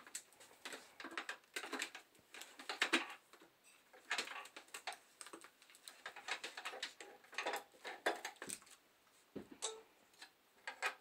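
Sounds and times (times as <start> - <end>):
plastic tubing and clamps clicking: 0.0 - 8.8, 9.4 - 11.0.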